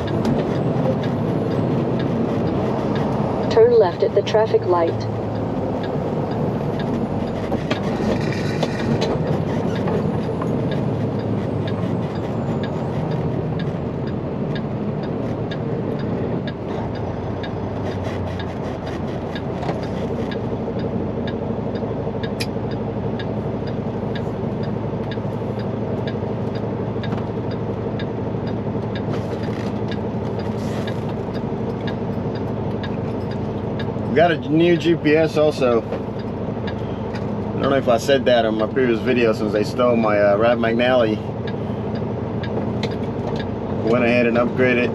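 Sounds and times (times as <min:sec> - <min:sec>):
diesel truck engine running: 0:00.0 - 0:44.9
road noise: 0:00.0 - 0:44.9
turn signal ticking: 0:00.0 - 0:44.9.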